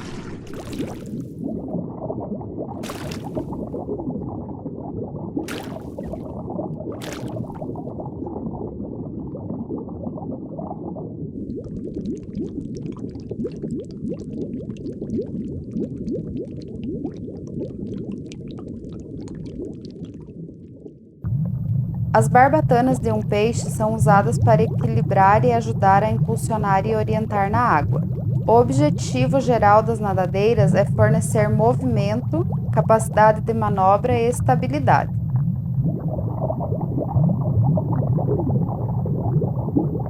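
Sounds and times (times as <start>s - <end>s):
bubbling bursts: 0.0s - 20.1s, 21.3s - 40.0s
low underwater rumble: 0.0s - 20.6s, 21.2s - 40.0s.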